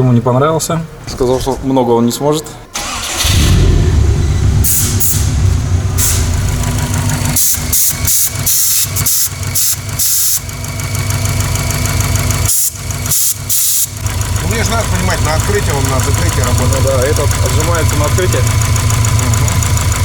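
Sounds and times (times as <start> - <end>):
car engine idling with knock: 2.8 - 20.0.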